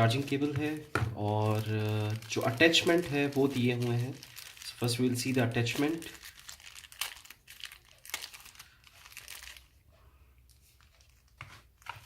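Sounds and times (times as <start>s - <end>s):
packaging rustling and crinkling: 0.0s - 9.8s, 10.5s - 12.0s.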